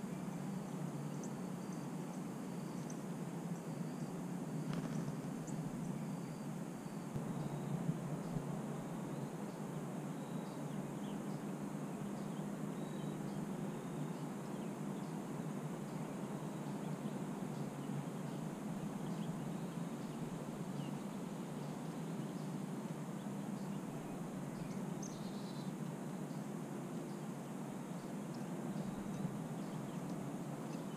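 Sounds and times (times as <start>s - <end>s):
low background hum: 0.0s - 30.9s.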